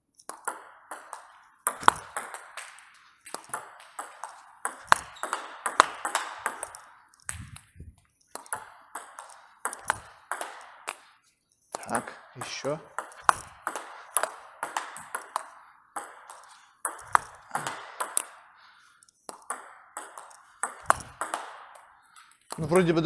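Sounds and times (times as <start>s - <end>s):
table tennis ball clicks: 0.2s - 11.1s, 11.7s - 18.4s, 19.0s - 22.8s.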